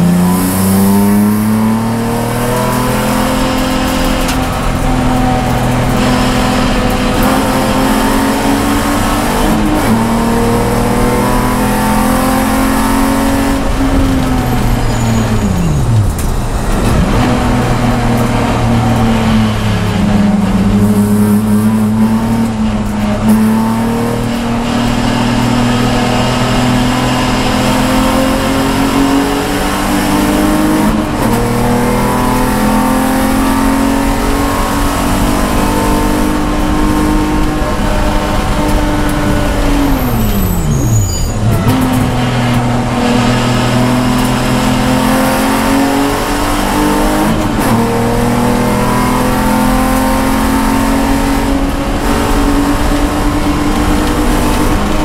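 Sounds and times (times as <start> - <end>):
race car engine from inside cabin: 0.0 - 55.0.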